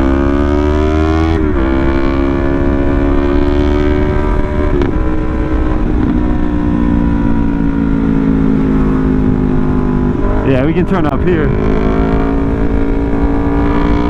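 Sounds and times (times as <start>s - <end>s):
motorcycle engine running: 0.0s - 14.0s
wind rumbling on microphone: 0.0s - 14.0s.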